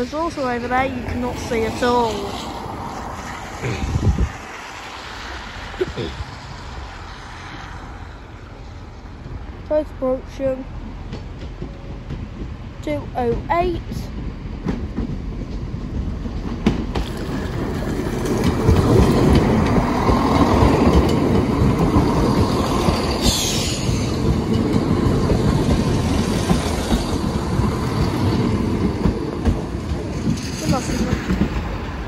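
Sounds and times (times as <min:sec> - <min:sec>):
train passing: 0:00.0 - 0:32.0.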